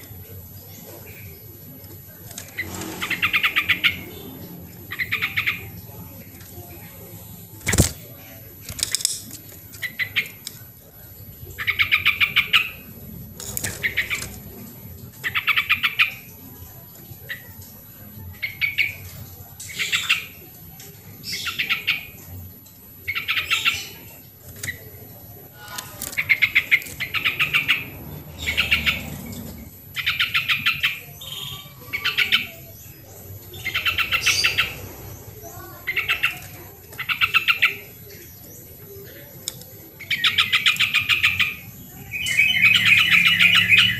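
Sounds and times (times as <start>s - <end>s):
bird singing chattering phrases: 0.0s - 43.9s.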